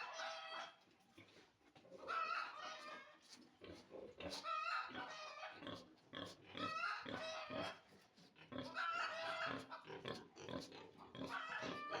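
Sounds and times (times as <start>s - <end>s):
piglets squealing and grunting: 2.0s - 12.0s.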